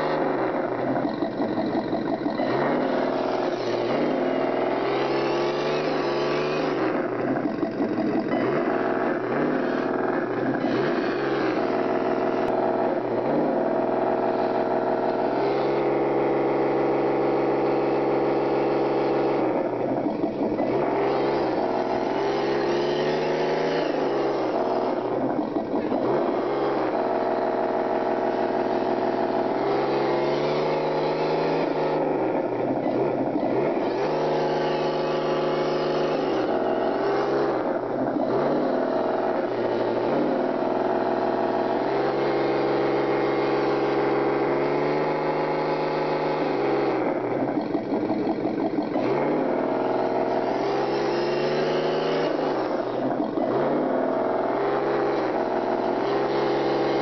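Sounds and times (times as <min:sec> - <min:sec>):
toy truck motor whining: 0:00.0 - 0:57.0.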